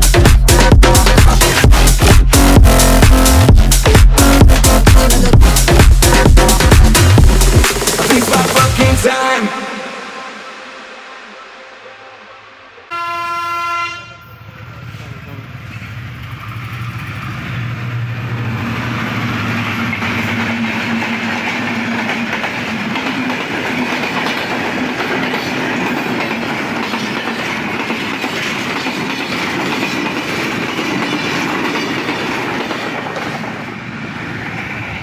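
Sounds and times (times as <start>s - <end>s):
train passing on rails: 0.0s - 35.0s.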